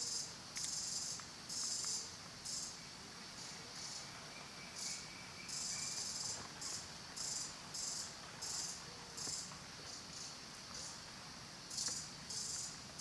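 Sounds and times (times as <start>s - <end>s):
insects chirping in buzzing bursts: 0.0s - 13.0s.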